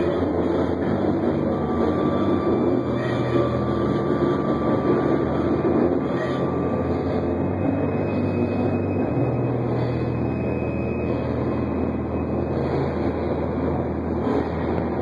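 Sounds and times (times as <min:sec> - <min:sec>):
distorted noise wash: 0:00.0 - 0:15.0.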